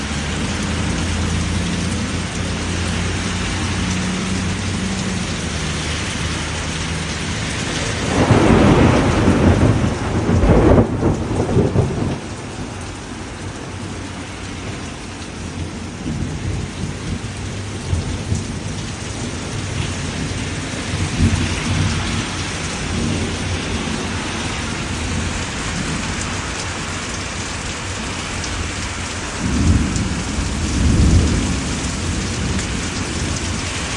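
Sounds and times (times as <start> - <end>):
thunder rumbling: 0.0 - 27.1, 28.4 - 33.9
steady rain falling: 0.0 - 33.9.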